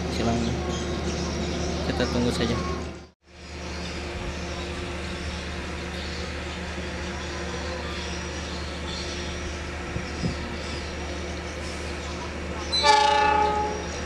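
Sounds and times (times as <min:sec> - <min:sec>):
diesel train idling hum: 0:00.0 - 0:14.0.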